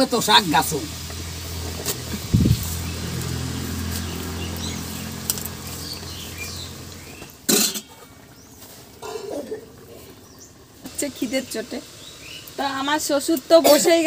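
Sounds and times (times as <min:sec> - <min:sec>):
low motor hum: 0:00.8 - 0:12.6
birds chirping: 0:01.2 - 0:13.2.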